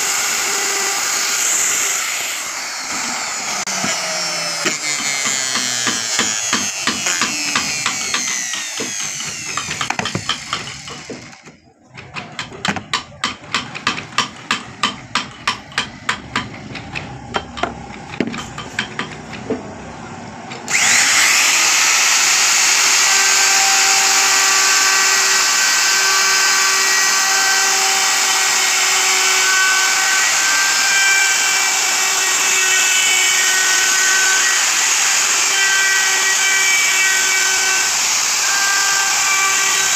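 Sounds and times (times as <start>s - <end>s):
router cutting wood: 0.0s - 19.4s, 20.6s - 39.9s.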